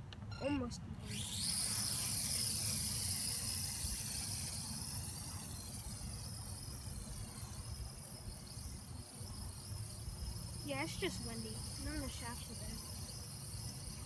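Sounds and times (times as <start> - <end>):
quadcopter rotors whining: 1.0 - 14.0.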